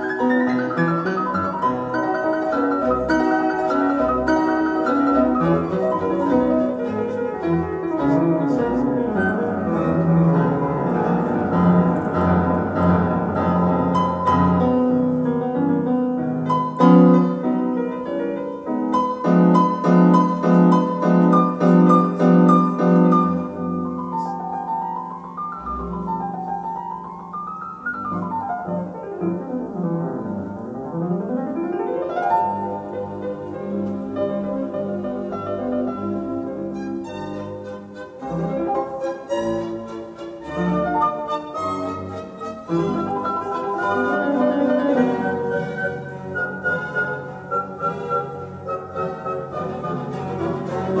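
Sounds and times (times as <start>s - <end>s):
piano music over loudspeakers: 0.0s - 51.0s.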